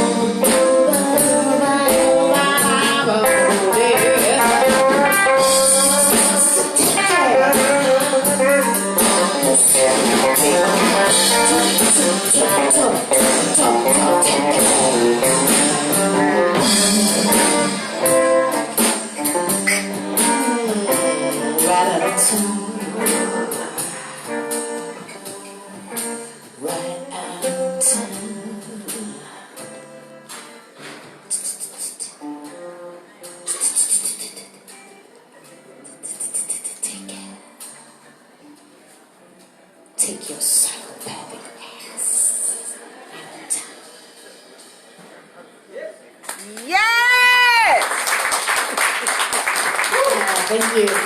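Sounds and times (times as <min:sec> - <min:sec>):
blues band playing: 0:00.0 - 0:42.8, 0:46.6 - 0:51.0
guitar: 0:00.0 - 0:51.0.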